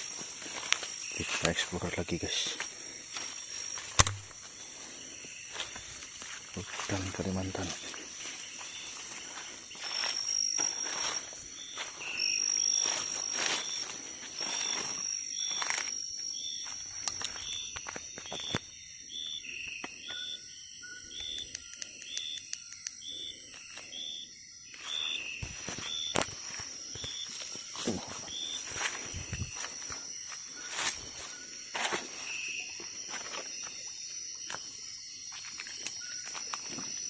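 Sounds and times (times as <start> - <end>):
high-pitched insect drone: 0.0 - 37.0
insect chirp: 0.0 - 37.0.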